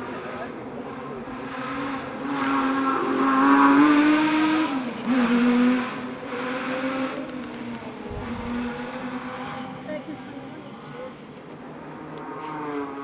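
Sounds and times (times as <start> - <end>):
rally car engine passing: 0.0 - 13.0.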